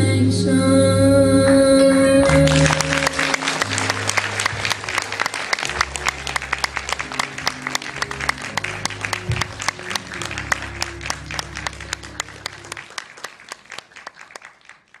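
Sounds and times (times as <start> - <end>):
low music notes: 0.0 - 13.2
audience applauding: 2.2 - 15.0.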